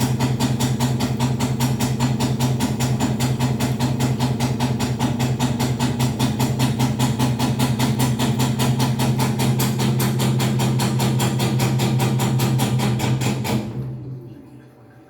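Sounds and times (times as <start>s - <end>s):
washing machine drum knocking: 0.0s - 14.5s.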